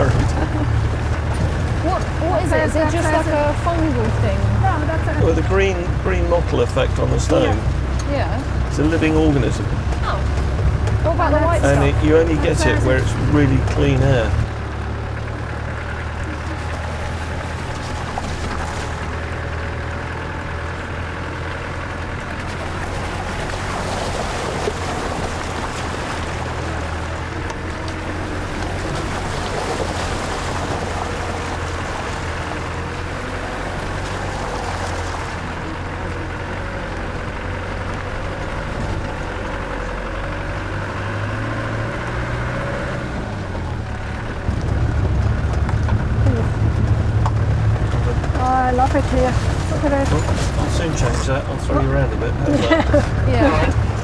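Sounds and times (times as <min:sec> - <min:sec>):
engine drone inside vehicle: 0:00.0 - 0:54.0.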